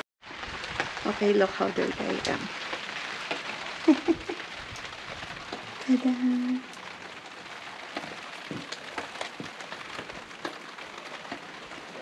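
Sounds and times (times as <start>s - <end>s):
steady rain hiss: 0.2s - 12.0s.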